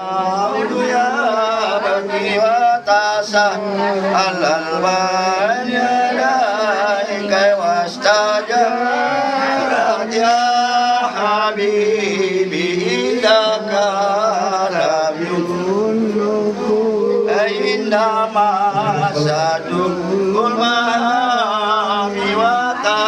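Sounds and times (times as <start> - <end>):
man chanting: 0.0 - 23.0.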